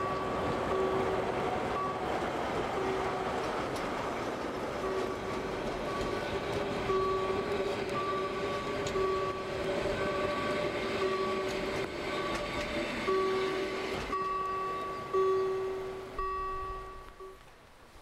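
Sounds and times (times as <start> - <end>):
train wheels rolling on rails: 0.0 - 17.7.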